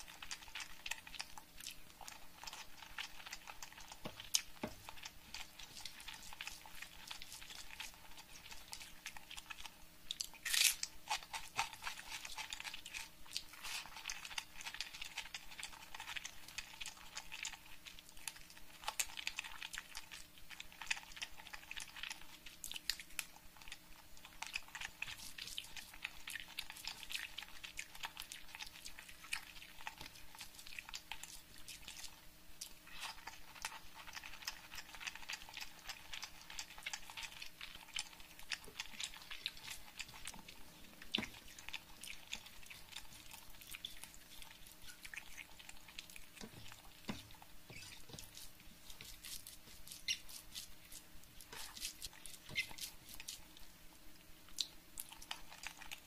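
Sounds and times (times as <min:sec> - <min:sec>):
chewing crispy fried food: 0:00.0 - 0:56.0.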